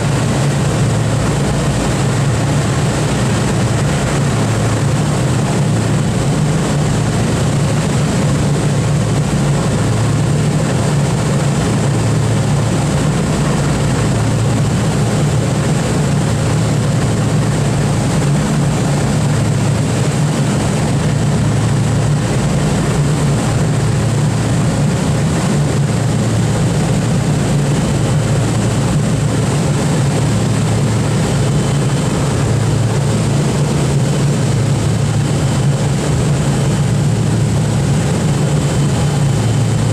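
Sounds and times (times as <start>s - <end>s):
propeller aircraft engines droning: 0.0s - 39.9s.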